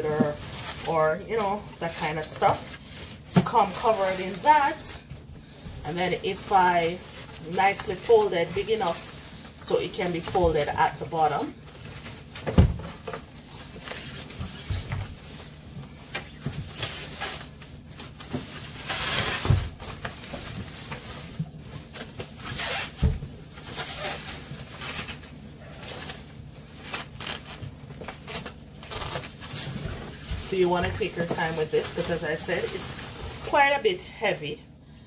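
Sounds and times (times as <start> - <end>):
plastic bag rustling and crinkling: 0.0 - 34.6.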